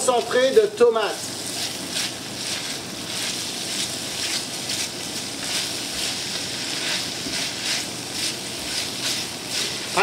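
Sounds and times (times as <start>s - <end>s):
vegetables sizzling in oil: 0.0s - 10.0s
spatula stirring in pan: 1.3s - 10.0s.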